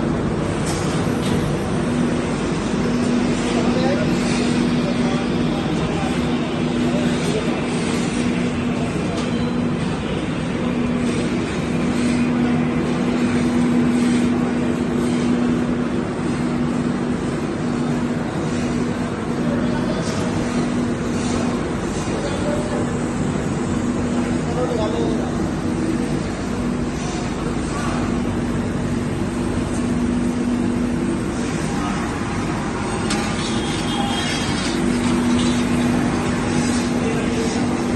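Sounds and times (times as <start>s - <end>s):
machinery humming and rushing: 0.0s - 37.9s.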